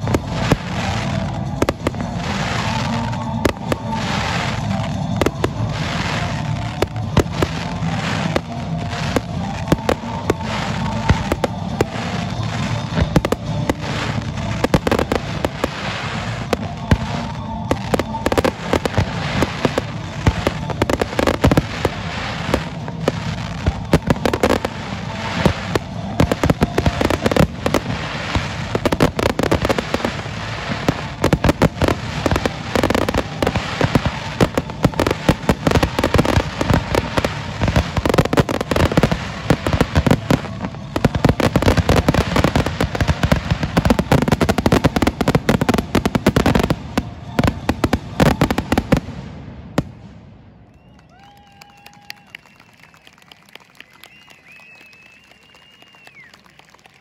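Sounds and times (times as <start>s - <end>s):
fireworks bangs: 0.0s - 50.3s.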